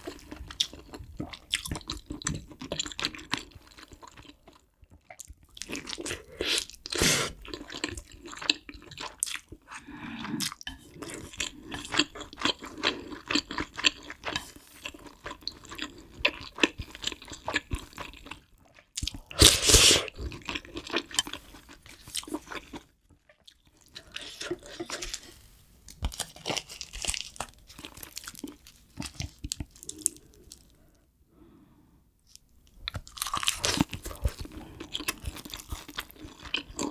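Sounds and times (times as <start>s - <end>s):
chewing and biting food: 0.0s - 9.7s, 10.4s - 19.3s, 20.1s - 25.3s, 25.9s - 30.8s, 32.8s - 36.9s.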